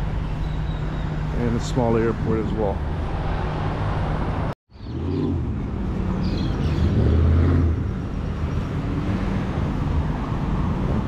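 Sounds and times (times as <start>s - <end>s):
low engine hum: 0.0s - 11.0s
vehicle engine and road noise: 0.0s - 11.0s.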